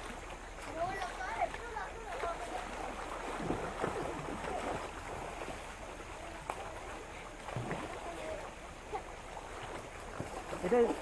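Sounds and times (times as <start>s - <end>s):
river running over rocks: 0.0s - 11.0s.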